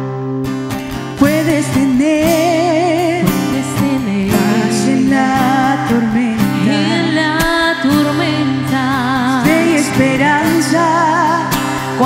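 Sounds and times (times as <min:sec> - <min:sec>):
acoustic guitar: 0:00.0 - 0:12.0
woman singing with vibrato: 0:01.2 - 0:12.0.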